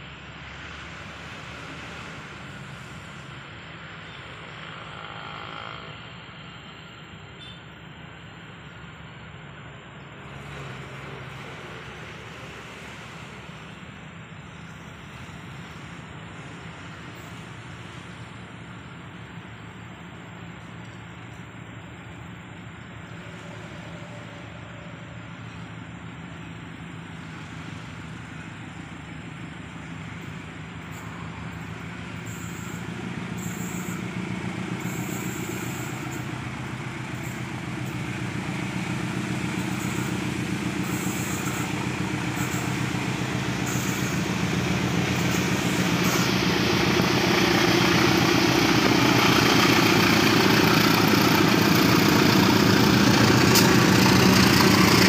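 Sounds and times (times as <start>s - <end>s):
diesel train approaching: 0.0s - 55.0s.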